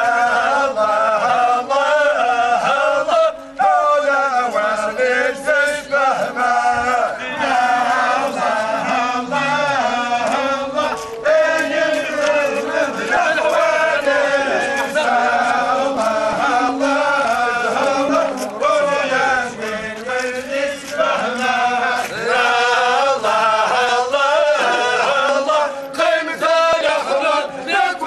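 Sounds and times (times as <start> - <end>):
men chanting in unison: 0.0 - 28.0.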